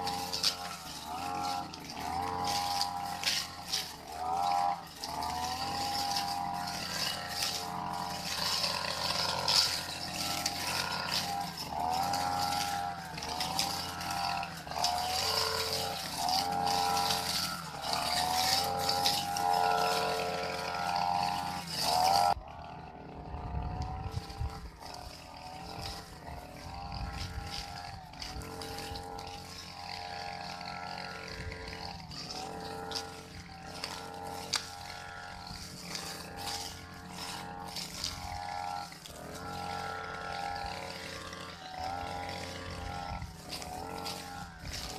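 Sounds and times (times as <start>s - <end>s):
brush cutter engine revving: 0.0s - 44.9s.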